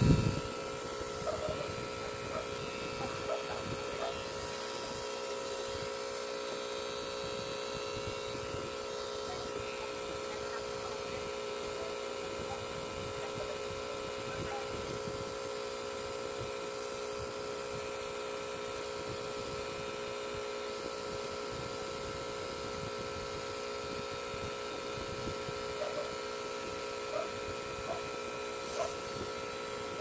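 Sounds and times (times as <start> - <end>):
tattoo machine humming: 0.0 - 30.0.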